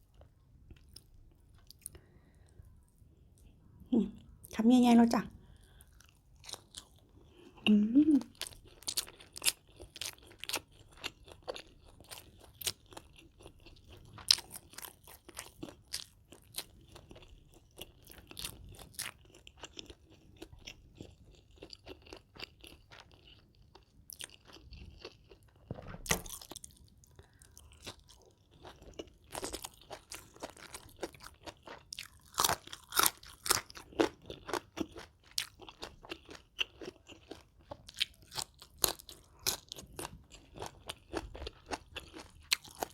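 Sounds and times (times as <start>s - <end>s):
person chewing crunchy food: 0.0s - 3.5s, 5.4s - 42.9s.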